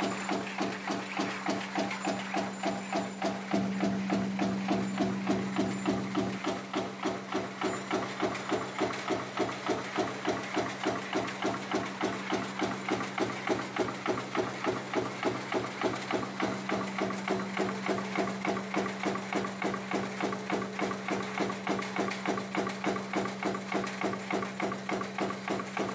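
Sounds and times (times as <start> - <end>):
constant motor hum: 0.0 - 25.9
rhythmic metallic machine strokes: 0.0 - 25.9.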